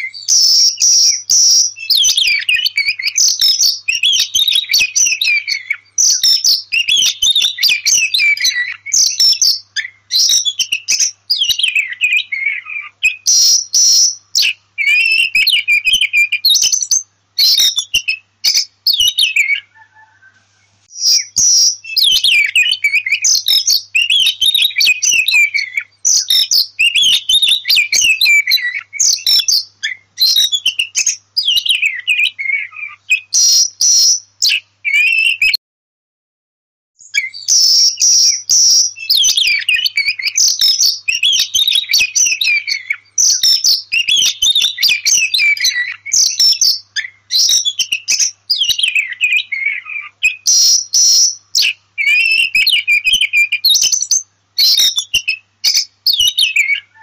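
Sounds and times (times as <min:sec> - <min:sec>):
magpie-robin singing: 0:00.0 - 0:35.6, 0:37.0 - 0:57.0.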